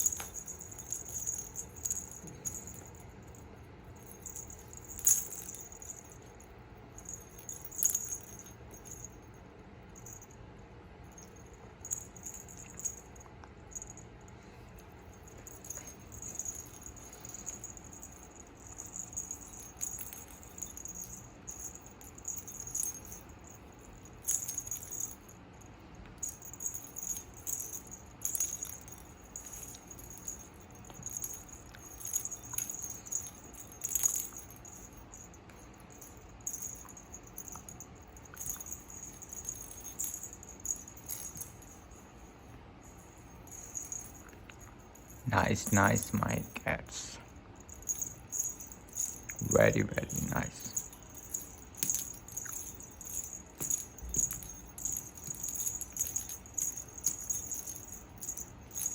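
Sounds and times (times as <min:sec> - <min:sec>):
metallic jingling and rattling: 0:00.0 - 0:09.4, 0:11.1 - 0:58.9.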